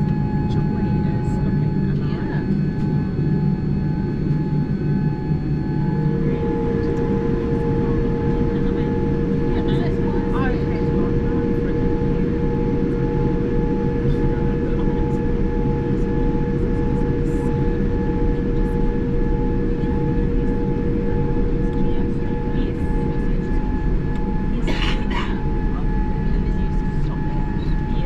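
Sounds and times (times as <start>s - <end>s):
airliner cabin rumble: 0.0s - 28.0s
steady hums: 0.0s - 28.0s.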